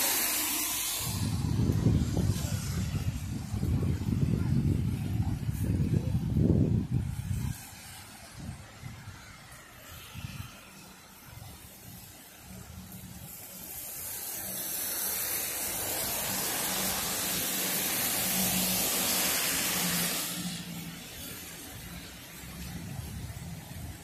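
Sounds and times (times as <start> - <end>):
car tyres hissing through water: 0.0 - 24.0.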